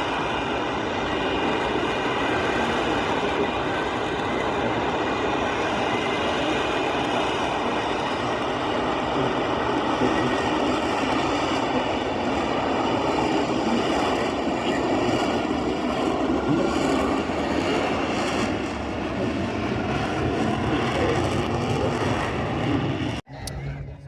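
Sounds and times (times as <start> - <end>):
airplane engine roar: 0.0 - 24.0.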